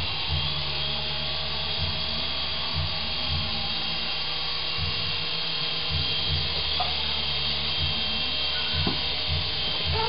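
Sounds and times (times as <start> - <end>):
rotor blades whirring: 0.0 - 10.0
toy helicopter motor whine: 0.0 - 10.0.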